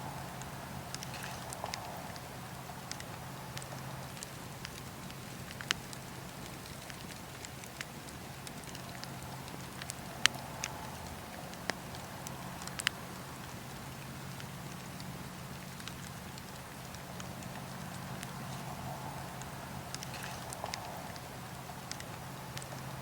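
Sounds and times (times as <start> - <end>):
campfire burning with low hiss: 0.0 - 23.0
crackles and pops of burning wood: 0.1 - 23.0.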